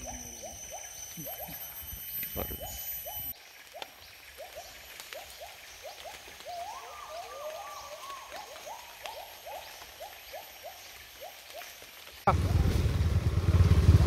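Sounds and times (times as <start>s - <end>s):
faint high chirps: 0.0s - 12.2s.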